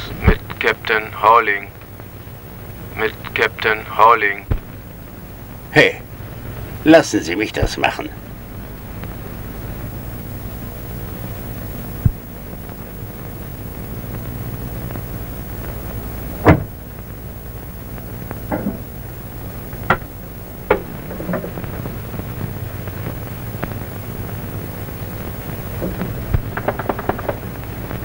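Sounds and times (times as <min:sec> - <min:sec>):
film soundtrack hiss and hum: 0:00.0 - 0:28.0.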